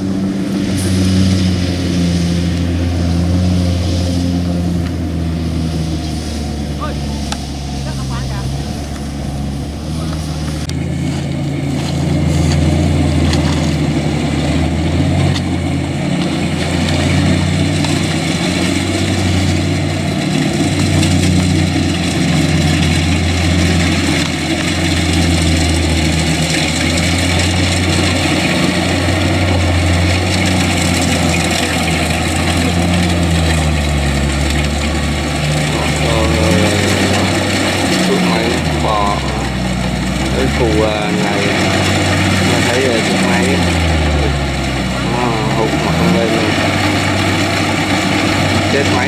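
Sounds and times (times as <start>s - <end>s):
diesel engine straining: 0.0s - 49.0s.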